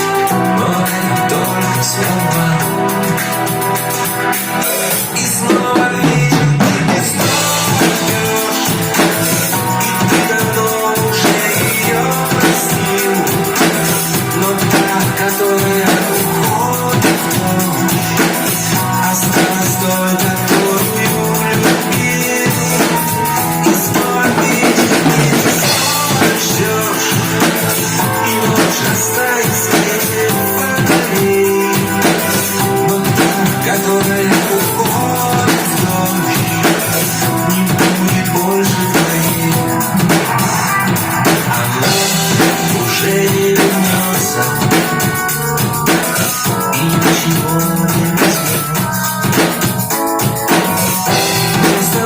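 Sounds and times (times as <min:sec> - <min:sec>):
drum-kit beat: 0:00.0 - 0:52.0
pop-rock instrumental music: 0:00.0 - 0:52.0.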